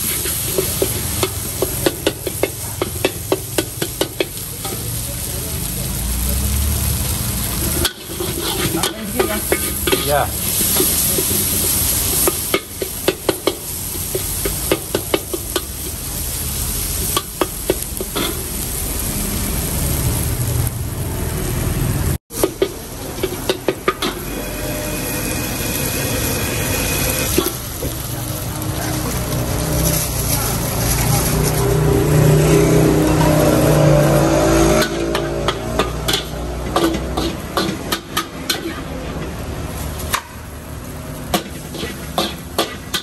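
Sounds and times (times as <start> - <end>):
metal ladle scraping a wok: 0.0 - 4.8, 7.4 - 16.1, 17.0 - 18.6, 22.4 - 43.0
noodles sizzling in a wok: 0.0 - 43.0.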